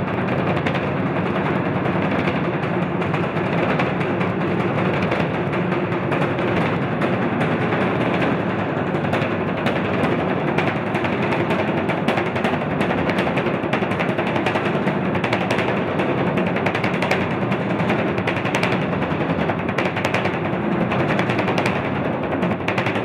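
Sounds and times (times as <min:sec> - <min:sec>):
fast drum roll on large drum: 0:00.0 - 0:23.0.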